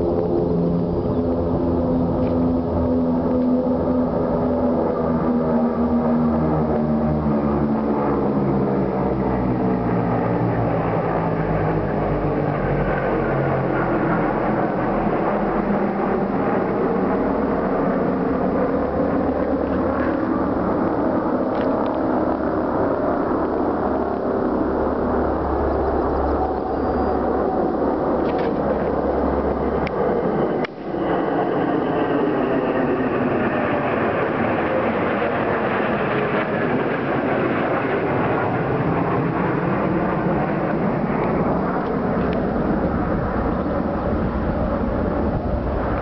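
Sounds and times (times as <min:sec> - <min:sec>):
military jets flying overhead: 0:00.0 - 0:46.0.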